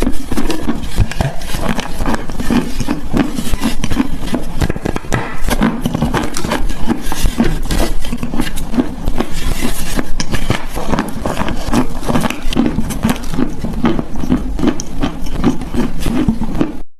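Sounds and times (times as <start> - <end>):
chalk crunching and chewing: 0.0 - 16.8.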